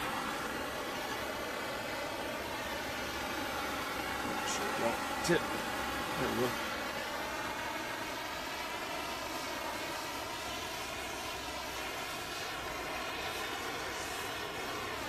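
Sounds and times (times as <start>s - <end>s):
propane torch hissing: 0.0s - 15.0s.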